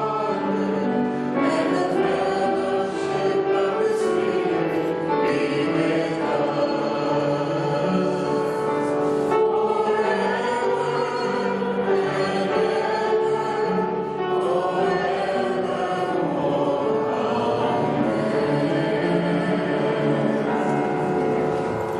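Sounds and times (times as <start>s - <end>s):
choir singing music: 0.0s - 21.9s.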